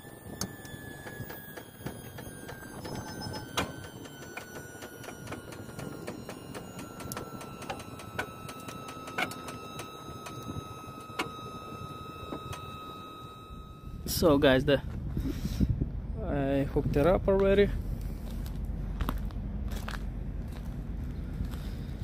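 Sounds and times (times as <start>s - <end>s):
faint high whine: 0.0s - 18.2s.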